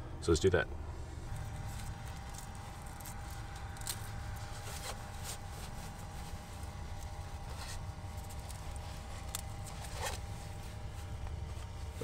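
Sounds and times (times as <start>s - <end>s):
faint steady hum: 0.0s - 12.0s
light clicks and rustles of hands: 1.3s - 12.0s.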